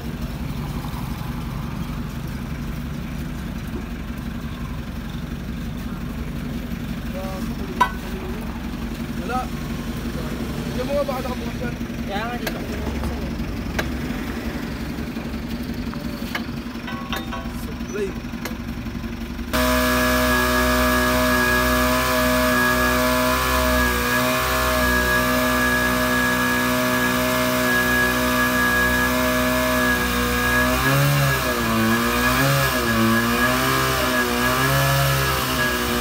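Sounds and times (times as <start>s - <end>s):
fire pump engine running: 0.0s - 36.0s.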